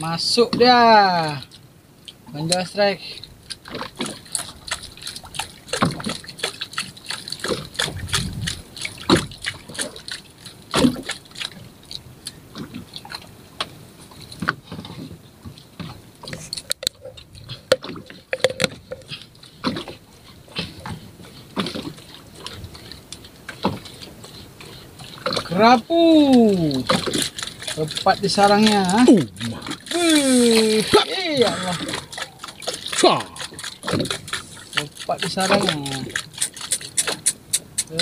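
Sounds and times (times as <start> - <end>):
water slapping against boat hull: 0.0 - 38.0.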